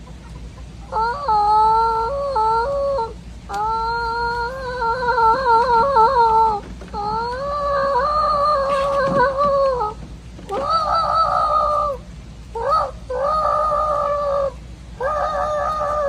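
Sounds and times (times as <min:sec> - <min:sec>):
man imitating chicken calls: 0:00.3 - 0:16.0.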